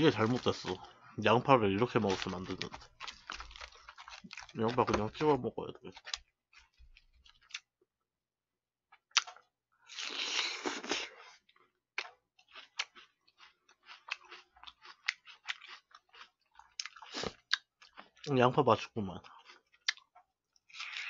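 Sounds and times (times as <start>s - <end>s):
crunchy onion chewing: 0.0s - 1.0s, 1.8s - 7.7s, 9.0s - 11.3s, 12.0s - 18.3s, 19.3s - 21.0s.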